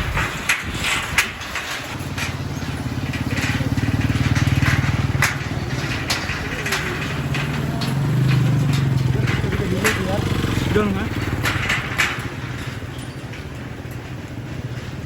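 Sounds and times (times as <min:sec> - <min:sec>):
sharp knocks and crunches: 0:00.0 - 0:12.9
motorcycle engine running: 0:00.0 - 0:15.0.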